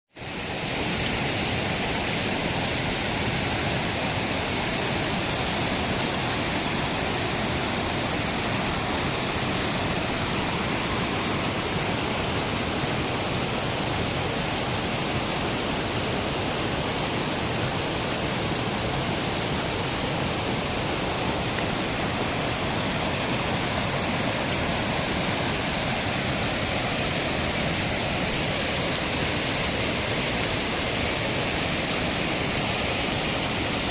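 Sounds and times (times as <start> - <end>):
river rushing: 0.1 - 33.9.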